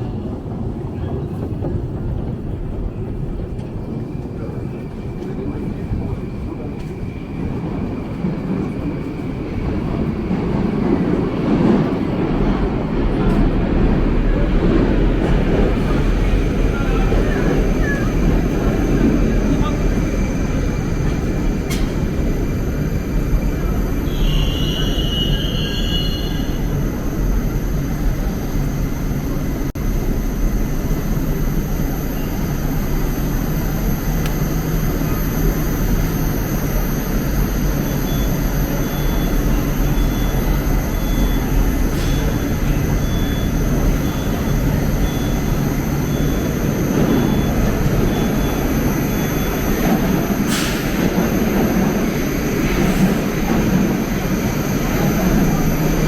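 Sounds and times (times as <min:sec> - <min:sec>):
metro train rumbling: 0:00.0 - 0:56.0.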